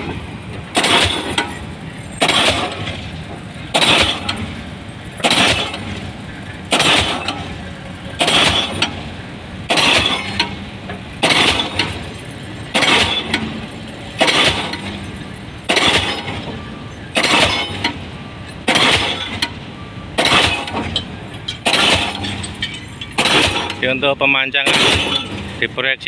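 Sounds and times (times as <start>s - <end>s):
pile hammer metallic blows: 0.0s - 26.0s.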